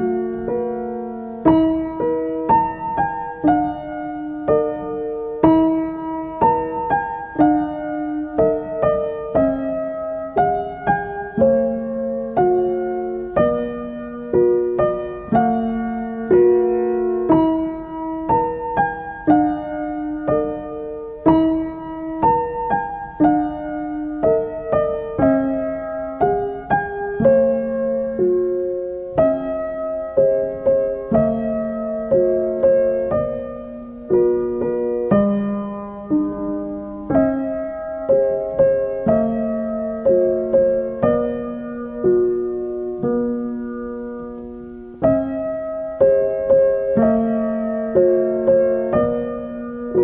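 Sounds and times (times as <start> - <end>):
gentle piano music: 0.0 - 50.0.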